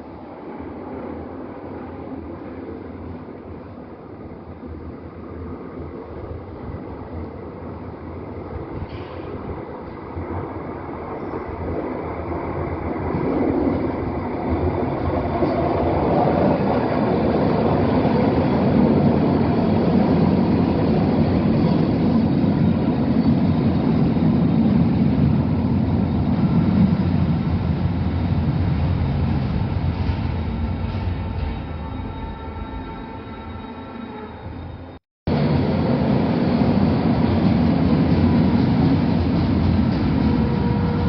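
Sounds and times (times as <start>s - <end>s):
train rumbling on track: 0.0s - 41.0s.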